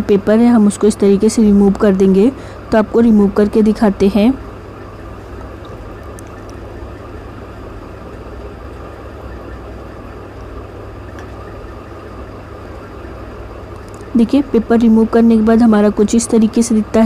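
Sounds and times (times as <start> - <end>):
constant hiss: 0.0 - 17.0
low mechanical hum: 0.0 - 17.0.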